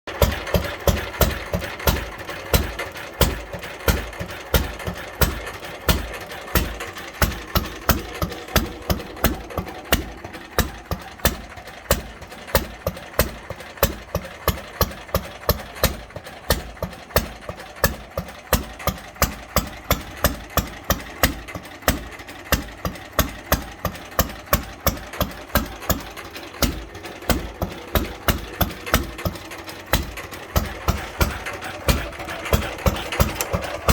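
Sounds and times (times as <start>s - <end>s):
single-cylinder engine idling: 0.0s - 33.9s.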